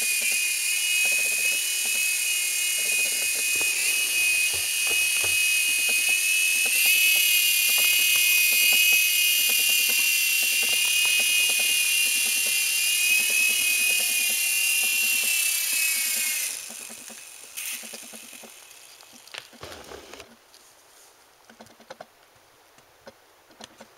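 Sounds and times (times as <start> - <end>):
toy helicopter motors whining: 0.0 - 20.3.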